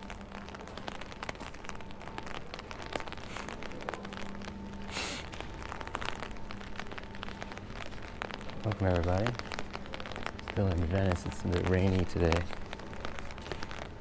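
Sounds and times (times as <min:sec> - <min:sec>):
faint steady hum: 0:00.0 - 0:14.0
raindrops tapping: 0:00.0 - 0:14.0.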